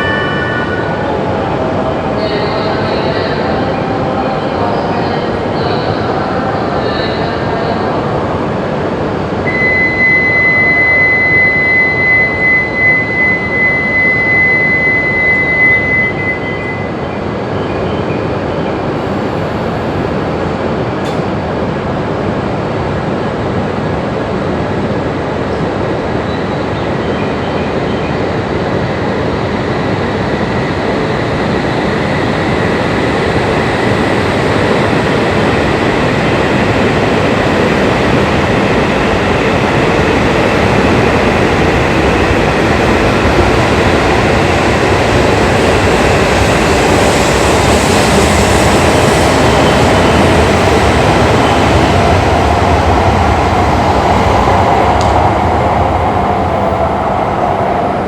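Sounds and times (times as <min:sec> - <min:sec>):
high-speed train wheels rushing: 0:00.0 - 0:58.0.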